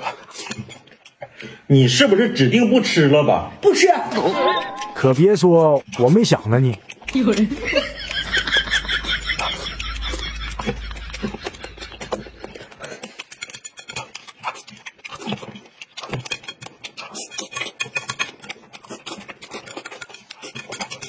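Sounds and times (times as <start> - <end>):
man chewing and smacking: 0.0 - 1.4, 4.7 - 21.0.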